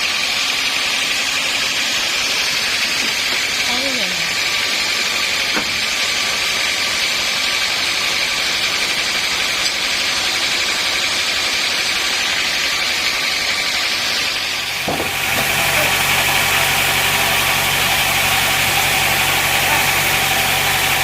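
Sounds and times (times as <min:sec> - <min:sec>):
faint motor whine: 0:00.0 - 0:21.0
sawmill machinery hissing: 0:00.0 - 0:21.0.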